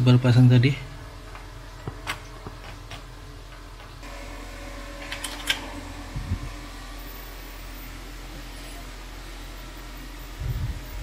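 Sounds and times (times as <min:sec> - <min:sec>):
computer cooling fan humming: 0:00.0 - 0:11.0.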